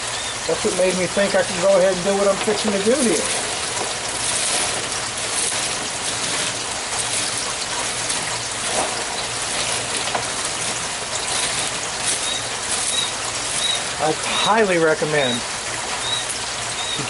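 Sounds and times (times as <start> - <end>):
falling splashing water: 0.0 - 17.0.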